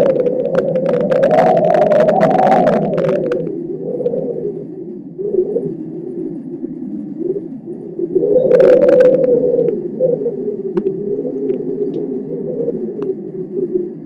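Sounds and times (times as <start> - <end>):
storm wind gusting over microphone: 0.0 - 14.0.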